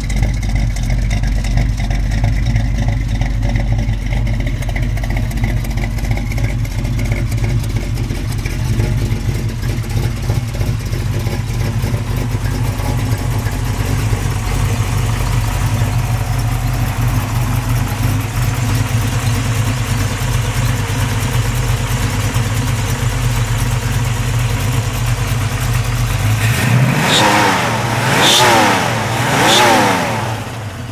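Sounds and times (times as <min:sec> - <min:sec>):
vee eight engine idling and revving: 0:00.0 - 0:30.9.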